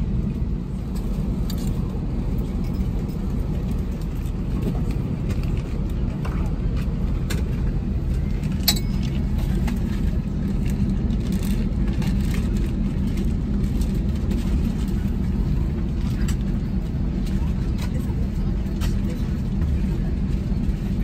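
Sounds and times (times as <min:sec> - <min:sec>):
aircraft cabin hum: 0:00.0 - 0:21.0.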